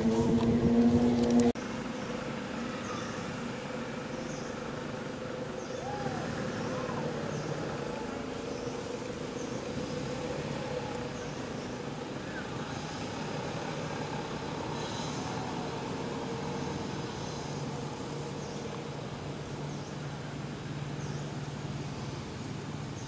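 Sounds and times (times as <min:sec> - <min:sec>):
low engine-like hum: 0:00.0 - 0:23.0.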